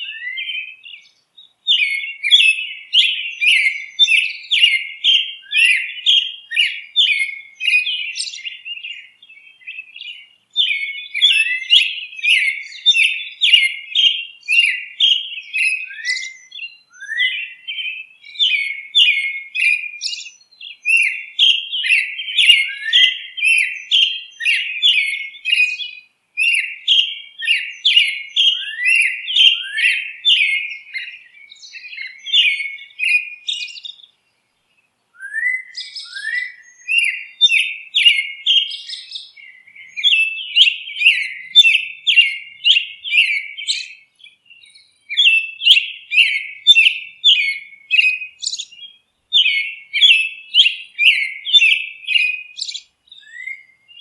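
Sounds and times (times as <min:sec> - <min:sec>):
birdsong chirping: 0:00.0 - 0:54.0.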